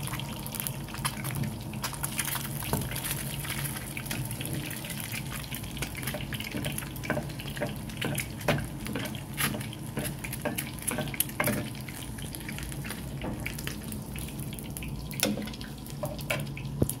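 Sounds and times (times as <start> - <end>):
egg sizzling in a pan: 0.0 - 17.0.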